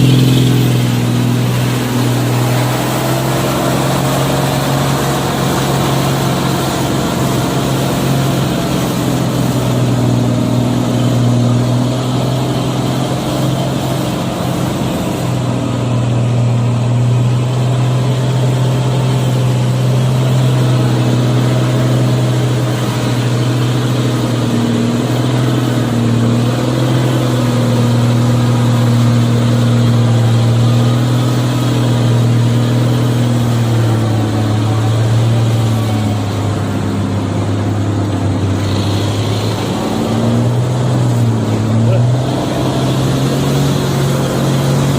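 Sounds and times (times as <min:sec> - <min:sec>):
truck engine droning: 0:00.0 - 0:44.9.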